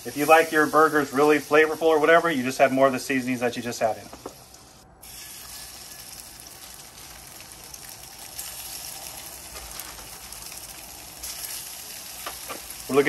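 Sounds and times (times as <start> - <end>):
patties sizzling in a pan: 0.0 - 13.0.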